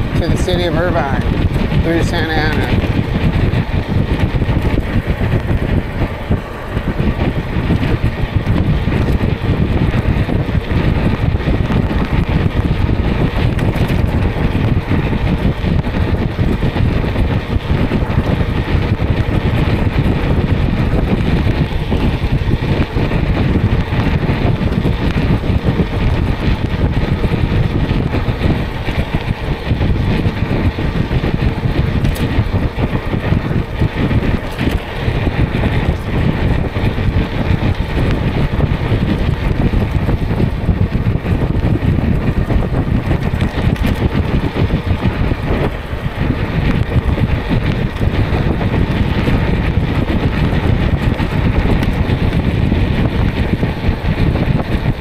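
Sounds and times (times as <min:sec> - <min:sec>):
road and traffic noise: 0:00.0 - 0:55.0
wind buffeting microphone: 0:00.0 - 0:55.0.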